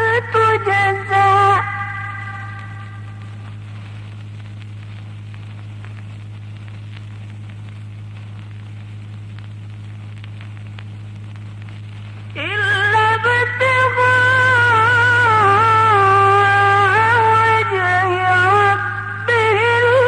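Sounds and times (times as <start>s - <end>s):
faint crackle: 0.0s - 20.0s
low electrical hum with hiss: 0.0s - 20.0s.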